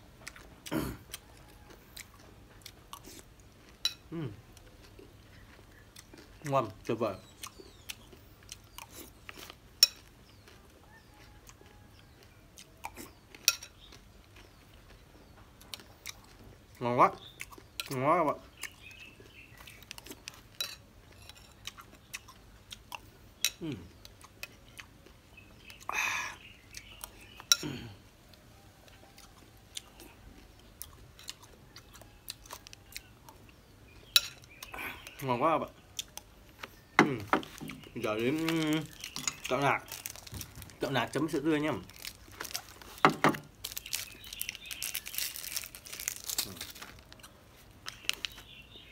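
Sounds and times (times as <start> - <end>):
person chewing: 0.0 - 48.8.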